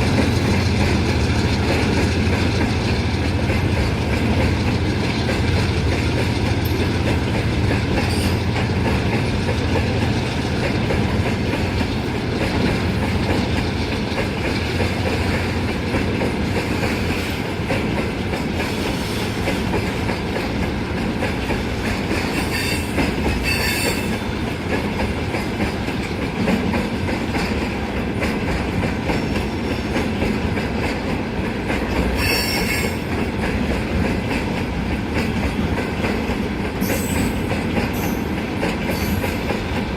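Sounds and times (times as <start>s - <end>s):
freight train rolling on rails: 0.0s - 39.9s.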